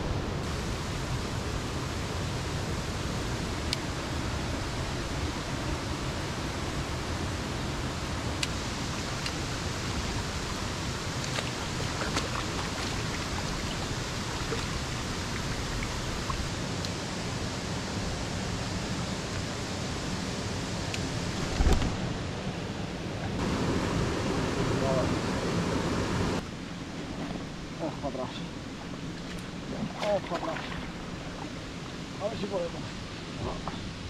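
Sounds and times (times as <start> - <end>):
steady rushing noise: 0.0 - 30.2.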